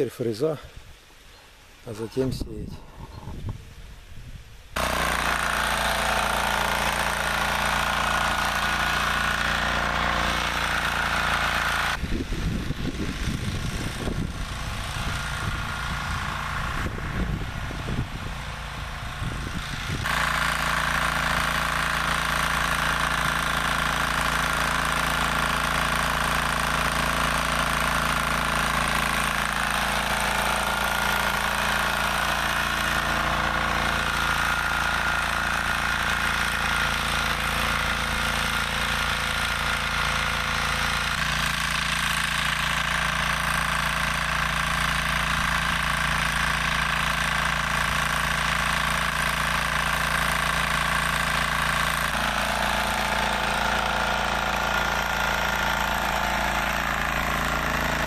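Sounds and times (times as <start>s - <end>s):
tractor engine tilling soil: 1.9s - 3.4s, 4.8s - 58.0s.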